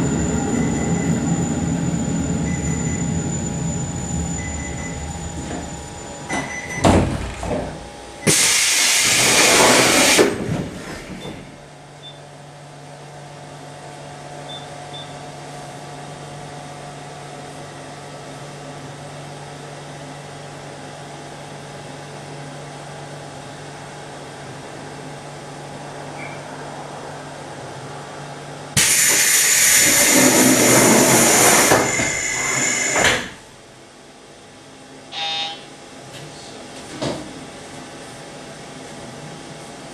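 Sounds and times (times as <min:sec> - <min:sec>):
train low hum: 0:00.0 - 0:14.3, 0:15.4 - 0:39.9.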